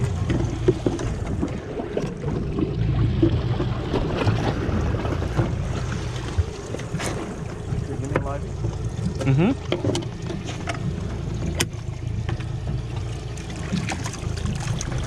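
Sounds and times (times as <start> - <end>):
boat engine rumble: 0.0 - 15.0
water sloshing: 0.0 - 15.0.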